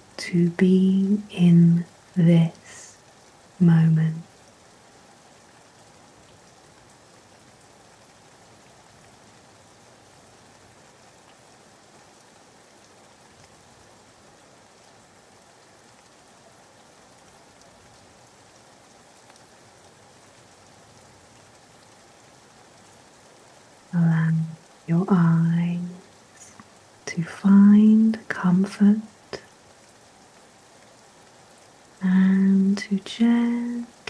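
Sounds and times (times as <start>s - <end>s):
rain hiss: 0.0s - 34.0s.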